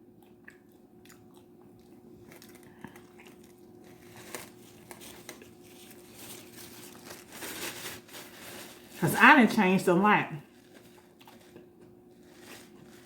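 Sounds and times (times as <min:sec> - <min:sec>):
food wrapper crinkling: 0:01.9 - 0:13.0.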